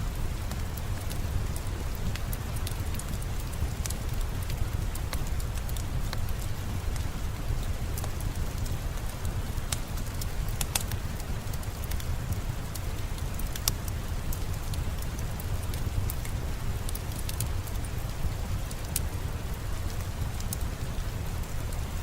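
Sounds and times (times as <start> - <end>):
steady rain falling: 0.0 - 22.0
wood fire crackling: 0.0 - 22.0.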